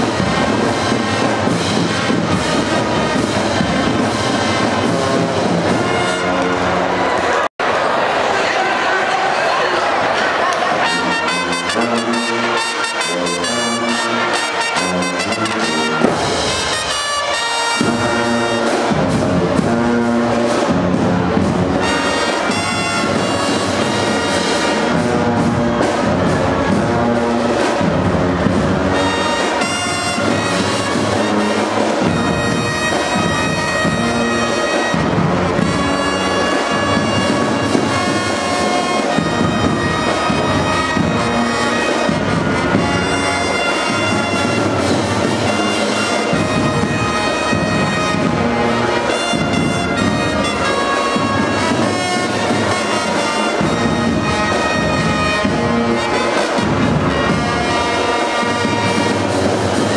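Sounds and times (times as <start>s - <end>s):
marching band playing: 0.0s - 8.6s, 9.8s - 59.9s.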